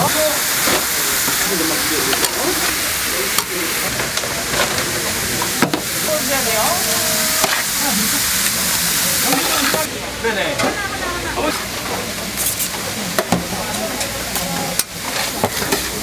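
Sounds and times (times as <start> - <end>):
meat patties sizzling: 0.0 - 16.0.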